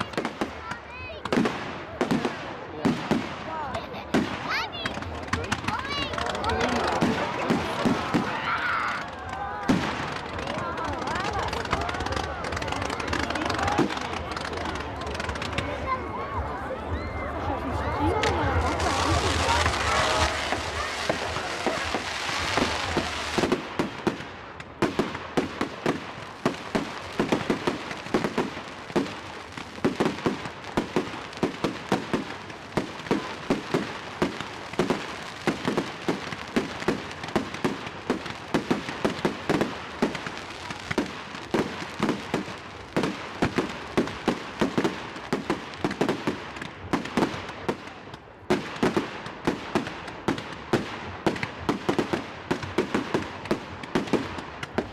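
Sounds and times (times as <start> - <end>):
fireworks banging and crackling: 0.0 - 54.9.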